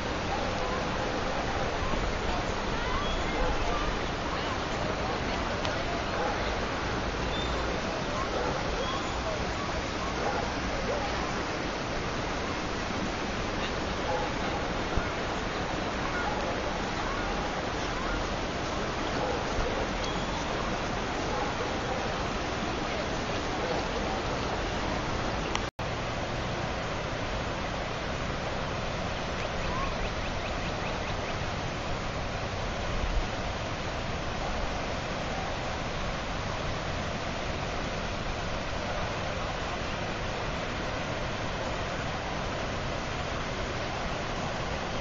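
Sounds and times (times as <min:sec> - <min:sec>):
floodwater rushing: 0:00.0 - 0:45.0.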